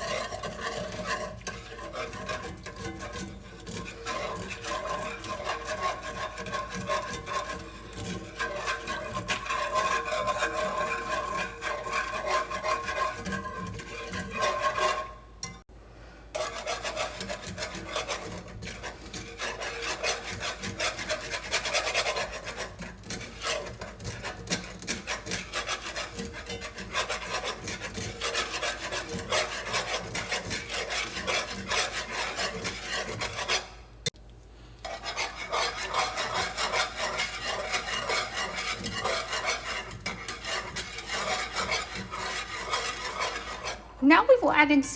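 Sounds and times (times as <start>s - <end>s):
whisk scraping a pan: 0.0s - 15.7s, 16.3s - 44.8s.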